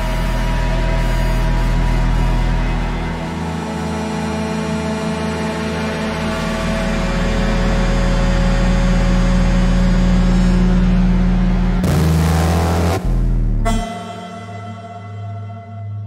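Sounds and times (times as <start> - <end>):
deep pulsing electronic drone: 0.0 - 16.0.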